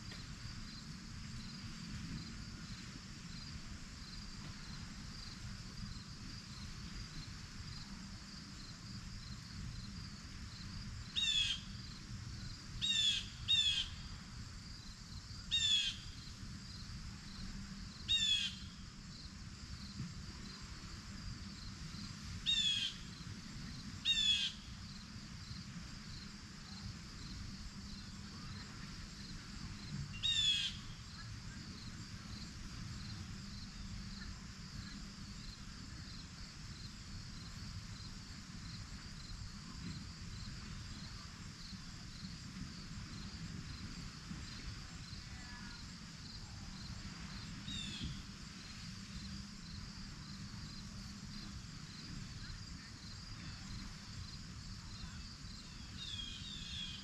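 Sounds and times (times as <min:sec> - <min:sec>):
insects trilling: 0:00.0 - 0:57.0
low steady rumble: 0:00.0 - 0:57.0.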